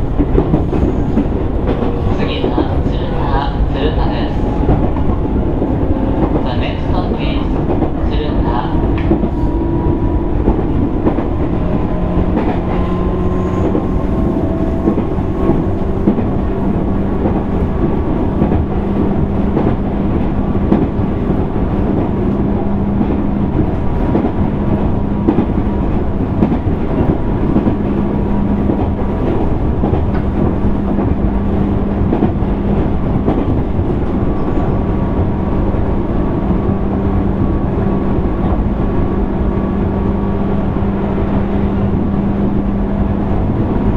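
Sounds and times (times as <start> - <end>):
train wheels clattering on rails: 0.0 - 40.0.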